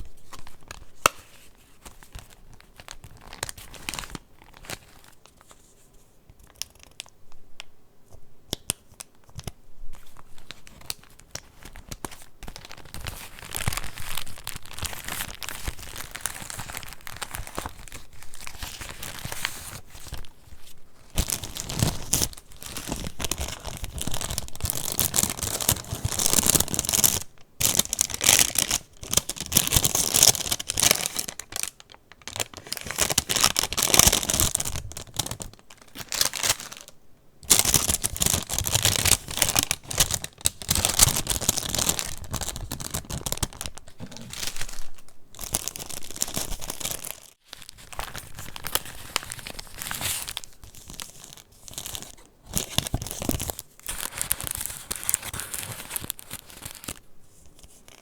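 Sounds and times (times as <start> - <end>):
paper pages rustling and crinkling: 0.0 - 7.0, 9.2 - 36.9, 37.5 - 58.0.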